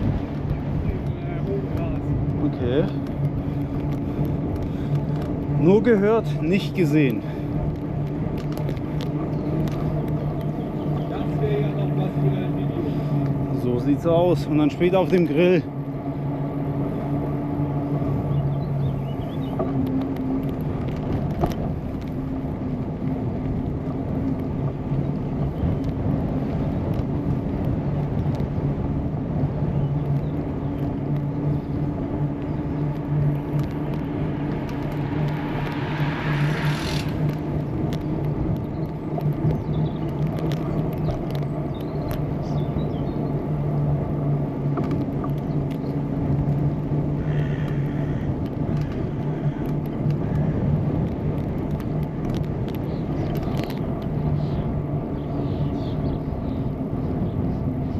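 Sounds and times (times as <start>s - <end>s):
low hum: 0.0s - 5.6s, 15.7s - 57.9s
bicycle tyres rumbling: 0.0s - 57.9s
wind on camera: 0.0s - 57.9s.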